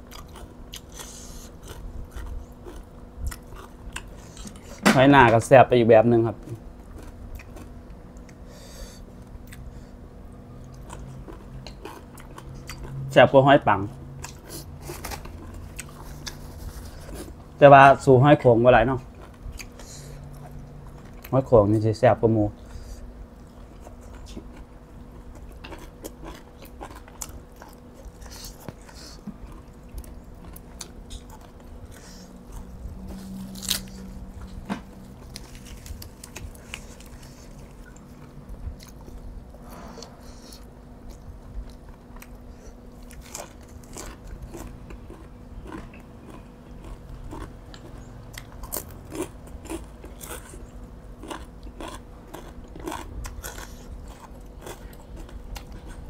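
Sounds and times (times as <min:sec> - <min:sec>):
person chewing crunchy food: 0:00.0 - 0:04.8, 0:06.4 - 0:18.0, 0:18.8 - 0:21.5, 0:22.6 - 0:56.0.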